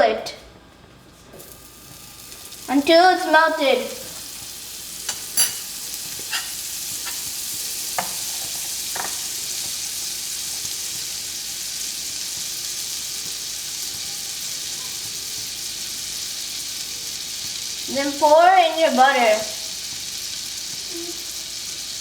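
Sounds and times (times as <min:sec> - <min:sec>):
butter sizzling in a skillet: 0:01.3 - 0:22.0.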